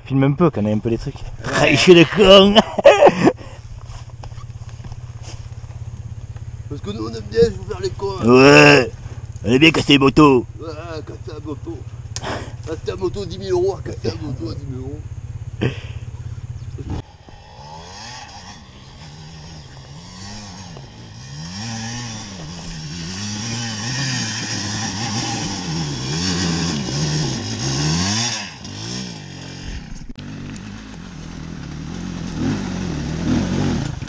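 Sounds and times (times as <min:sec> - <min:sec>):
steady low hum: 0:00.7 - 0:34.0
motorcycle engine revving: 0:01.2 - 0:34.0.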